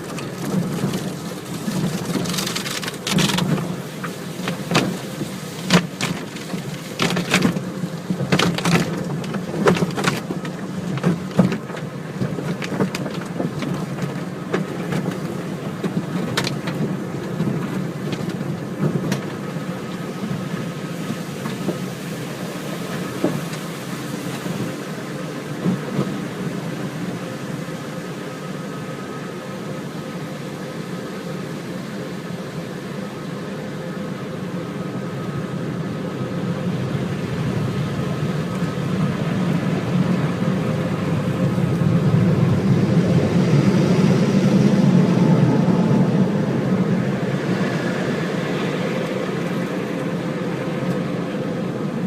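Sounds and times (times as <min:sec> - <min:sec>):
low mechanical rumble: 0:00.0 - 0:52.0.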